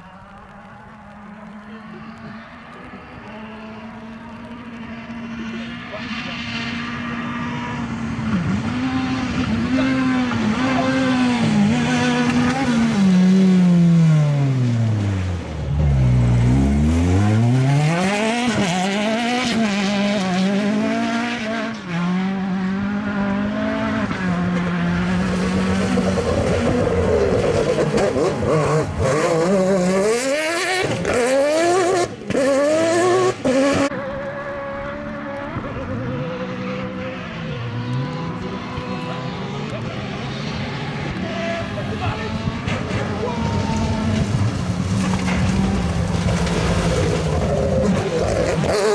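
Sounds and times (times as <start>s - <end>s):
rally car engine revving: 0.1s - 48.9s.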